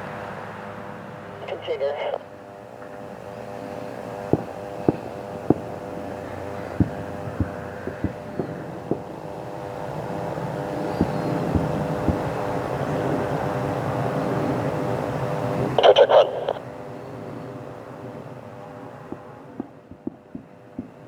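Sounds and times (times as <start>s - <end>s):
aircraft engine hum: 0.0s - 21.0s.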